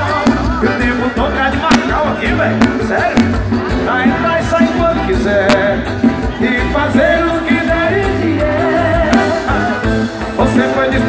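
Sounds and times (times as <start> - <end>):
band playing bass keyboards drums: 0.0 - 11.0
person singing: 0.0 - 11.0.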